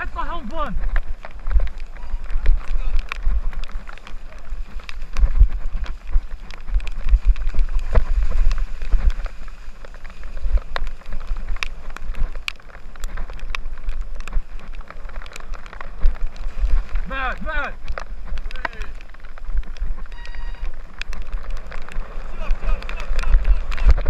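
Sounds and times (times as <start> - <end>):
bike rattling over rough ground: 0.0 - 24.0
wind buffeting microphone: 0.0 - 24.0.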